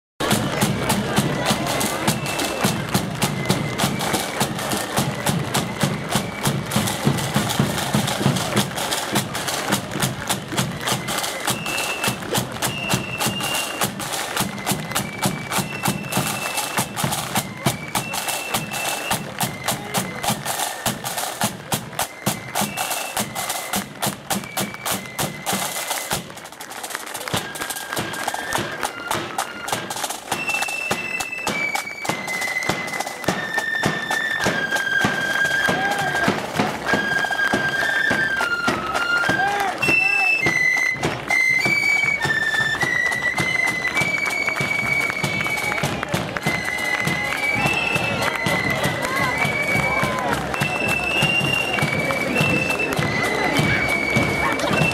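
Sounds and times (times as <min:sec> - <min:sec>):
flutes playing a march: 0:00.2 - 0:54.9
snare drums: 0:00.2 - 0:54.9.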